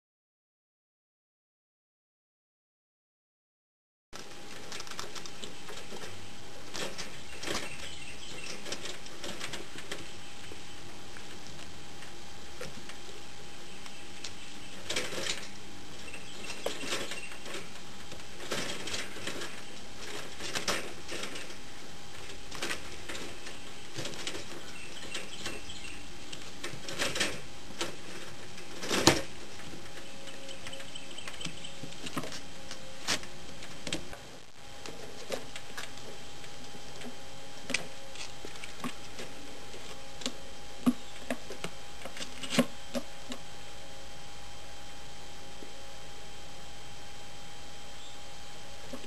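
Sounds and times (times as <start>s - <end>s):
steady background hum: 4.2s - 49.0s.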